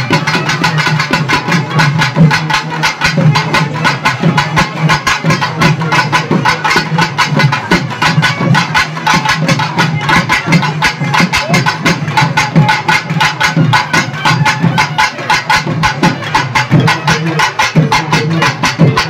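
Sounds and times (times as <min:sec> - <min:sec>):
fast drumming: 0:00.0 - 0:19.0.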